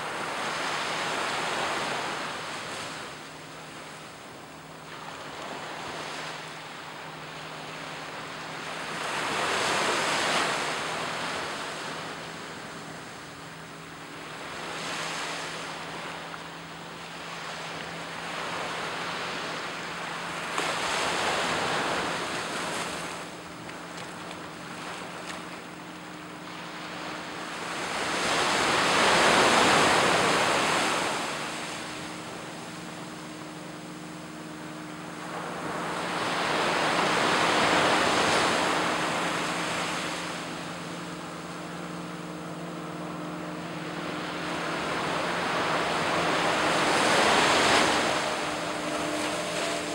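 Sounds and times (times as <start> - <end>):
distant motorboat hum: 0.0 - 49.9
waves washing on sandy beach: 0.0 - 49.9.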